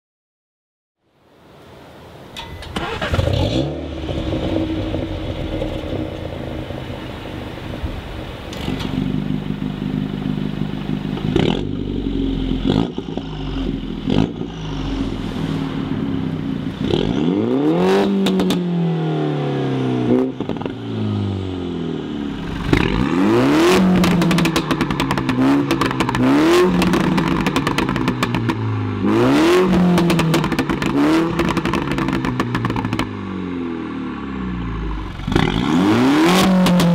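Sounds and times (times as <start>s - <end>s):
exhaust crackling and popping: 2.7s - 18.8s, 20.1s - 21.0s, 22.2s - 33.2s, 34.8s - 36.9s
car engine starting and revving: 2.7s - 36.9s.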